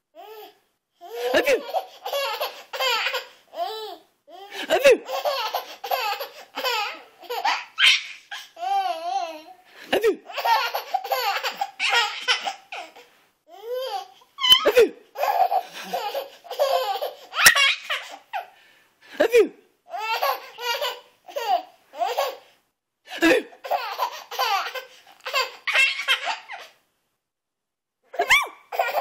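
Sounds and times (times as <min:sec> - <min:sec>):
baby laughing: 0:01.0 - 0:18.5, 0:19.9 - 0:22.5, 0:23.2 - 0:26.8, 0:28.1 - 0:29.0.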